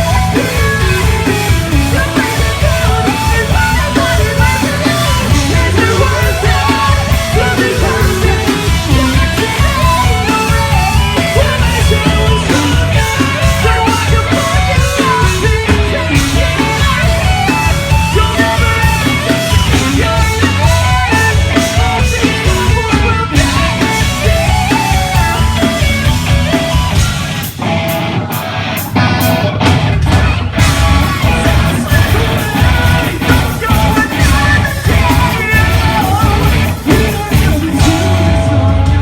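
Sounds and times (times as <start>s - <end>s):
electric guitar: 0.0s - 39.0s
live rock band playing: 0.0s - 39.0s.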